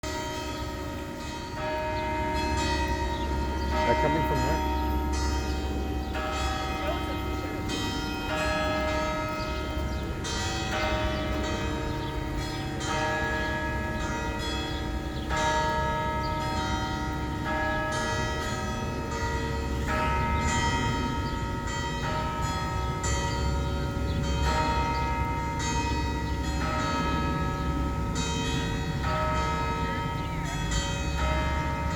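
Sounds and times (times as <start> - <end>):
church bells ringing: 0.0 - 31.9.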